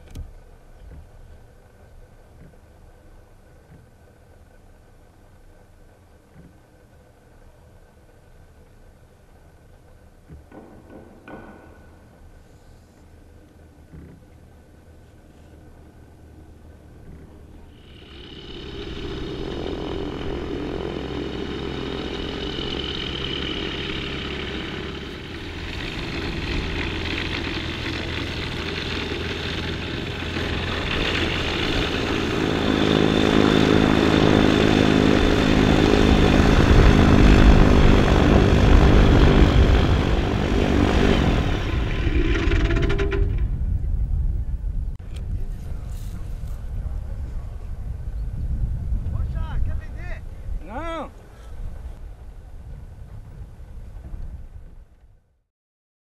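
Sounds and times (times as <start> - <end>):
propeller airplane engine running: 0.0 - 55.3.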